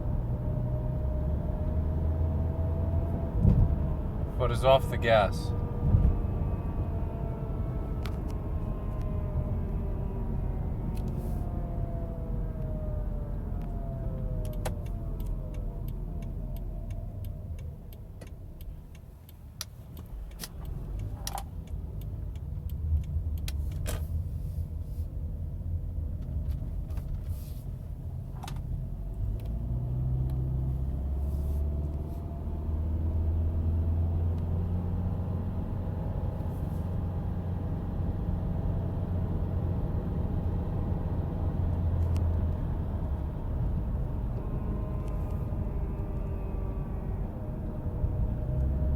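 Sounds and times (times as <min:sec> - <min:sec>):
car engine and road rumble: 0:00.0 - 0:48.9.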